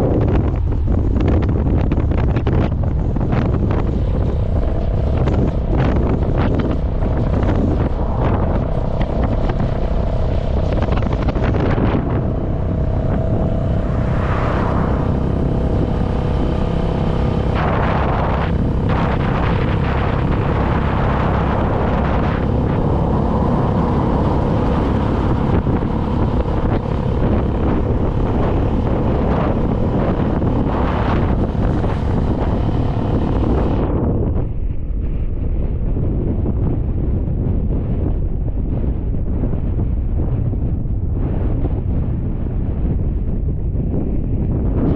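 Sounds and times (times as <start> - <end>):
engine and road noise: 0.0 - 44.9
wind buffeting microphone: 0.0 - 44.9.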